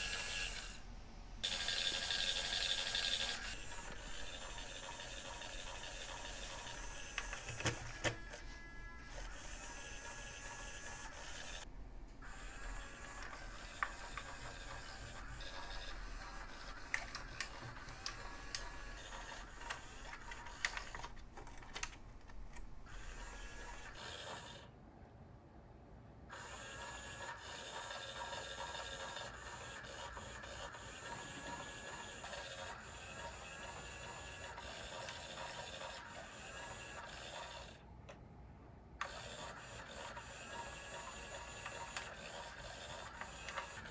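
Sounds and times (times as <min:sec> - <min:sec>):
toy motor whirring: 0:00.0 - 0:00.8, 0:01.4 - 0:21.2, 0:22.8 - 0:24.7, 0:26.3 - 0:37.8, 0:39.0 - 0:43.9.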